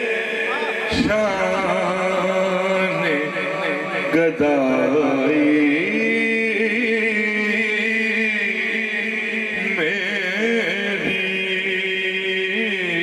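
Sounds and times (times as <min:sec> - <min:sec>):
man chanting into microphone: 0:00.0 - 0:13.0.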